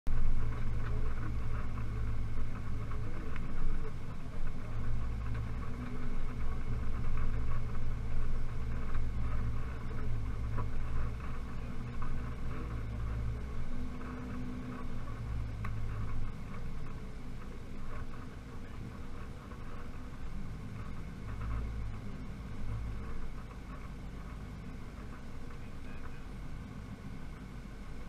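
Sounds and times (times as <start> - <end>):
rumbling of tyres over grass: 0.1 - 28.0
truck engine droning: 0.1 - 28.0.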